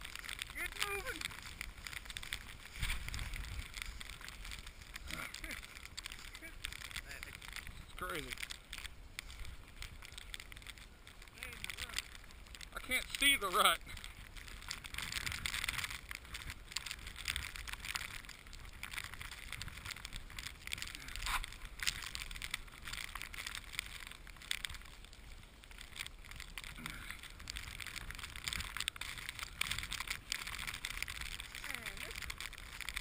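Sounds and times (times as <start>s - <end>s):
footsteps crunching in snow: 0.0s - 33.0s.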